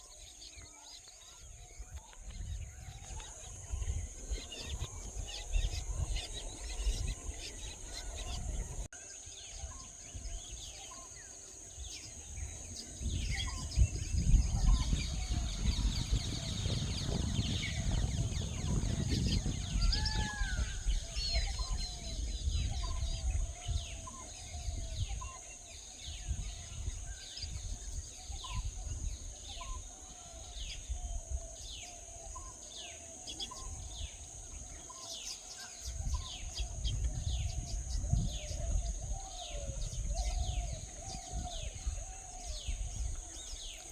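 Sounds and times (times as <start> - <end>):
small birds chirping: 0.0 - 43.9
low wind rumble: 1.4 - 8.9, 11.7 - 32.4, 35.8 - 43.9.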